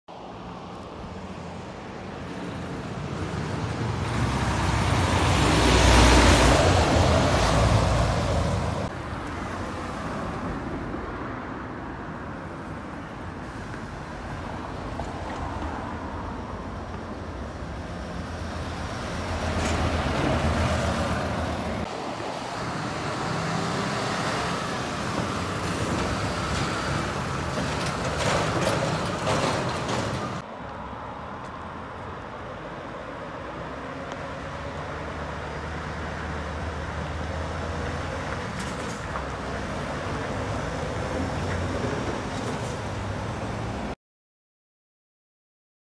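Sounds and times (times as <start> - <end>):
heavy lorries driving past: 0.4 - 11.2, 13.4 - 30.9, 31.8 - 44.0.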